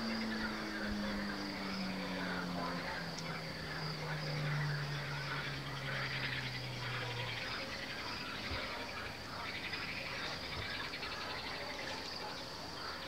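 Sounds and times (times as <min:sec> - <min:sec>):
frogs calling: 0:00.0 - 0:13.0
low steady hum: 0:00.0 - 0:13.0.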